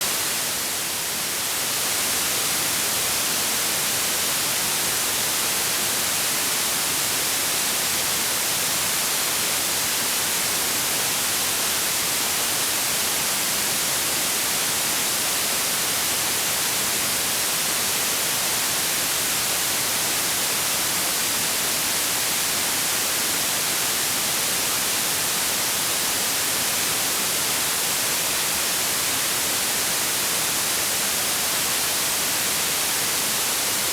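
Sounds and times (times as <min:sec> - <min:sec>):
white noise hiss: 0:00.0 - 0:33.9.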